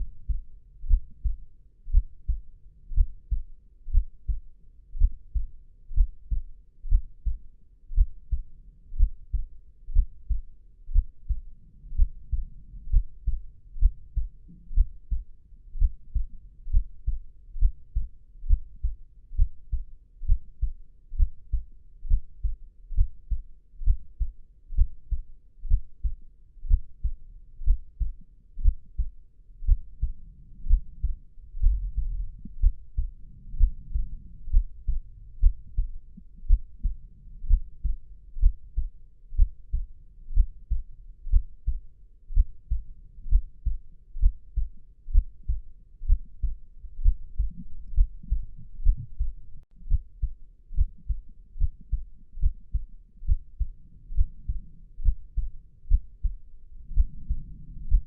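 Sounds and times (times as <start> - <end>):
human heartbeat: 0.0 - 58.0.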